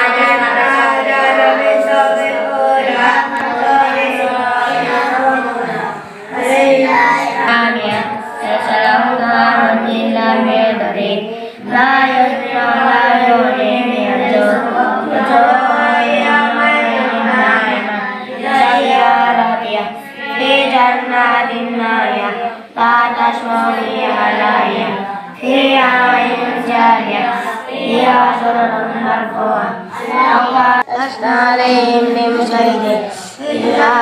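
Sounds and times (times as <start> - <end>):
boys chanting in unison: 0.0 - 34.0.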